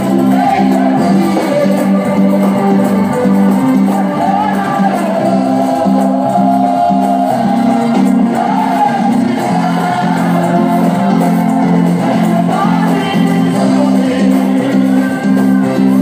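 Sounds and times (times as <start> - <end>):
band playing: 0.0 - 16.0
man singing into microphone: 0.0 - 16.0
voices singing along: 0.0 - 16.0.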